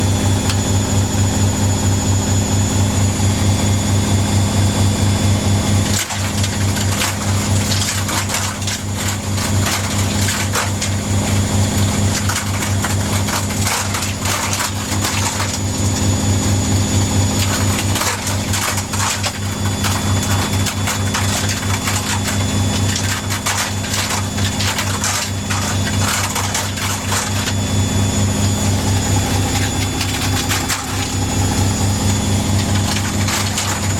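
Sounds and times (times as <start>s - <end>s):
washing machine spinning hum: 0.0s - 33.9s.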